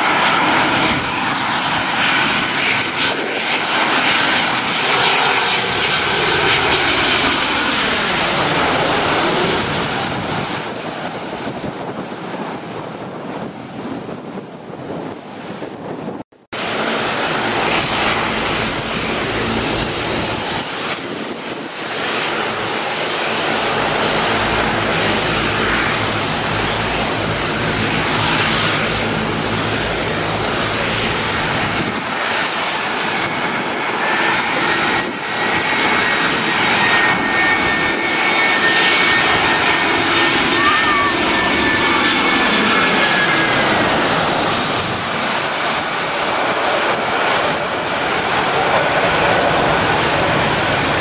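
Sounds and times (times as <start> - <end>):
high jet engine whine: 0.0 - 51.0
jet engines roaring: 0.0 - 51.0.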